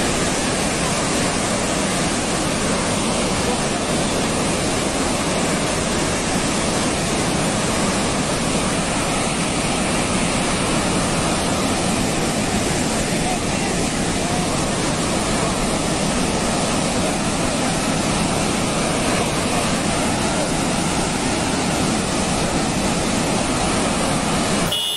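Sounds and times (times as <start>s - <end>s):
floodwater rushing: 0.0s - 24.9s.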